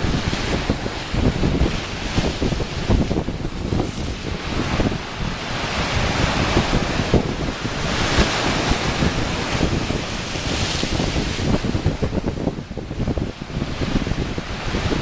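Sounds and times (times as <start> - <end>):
ocean waves washing against rocks: 0.0 - 15.0
wind buffeting microphone: 0.0 - 15.0.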